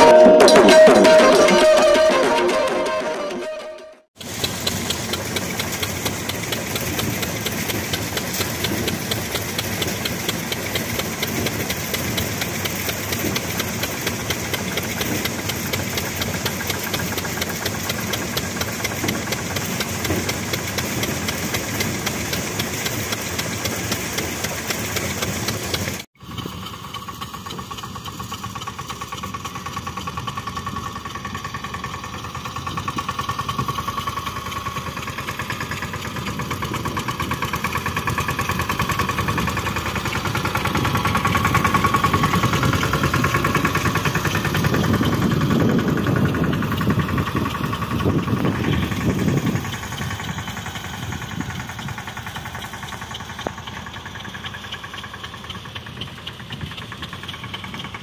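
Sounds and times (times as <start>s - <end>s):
small diesel engine running: 0.0s - 58.0s.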